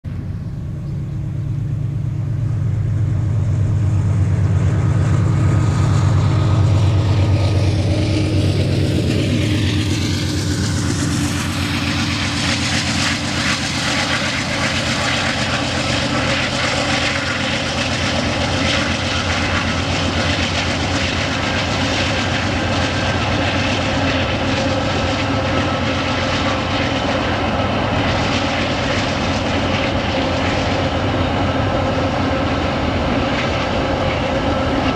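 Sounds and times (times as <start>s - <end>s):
locomotive engine passing: 0.1s - 34.9s
wagons rumbling and clattering on rails: 0.1s - 34.9s.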